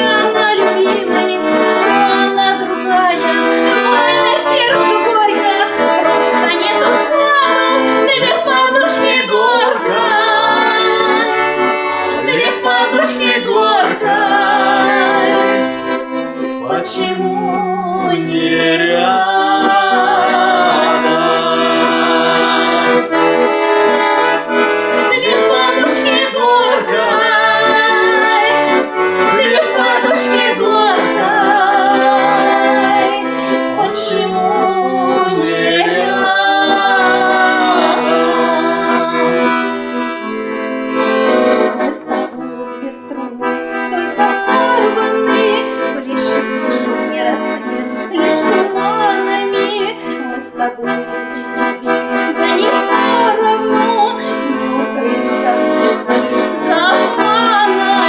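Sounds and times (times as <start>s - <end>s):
accordion playing: 0.0s - 58.0s.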